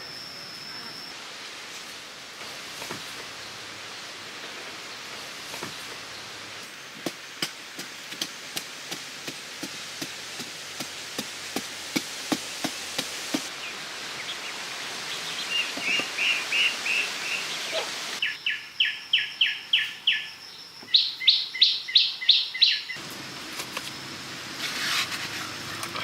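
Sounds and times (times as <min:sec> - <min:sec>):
rain-like hiss: 0:00.0 - 0:26.0.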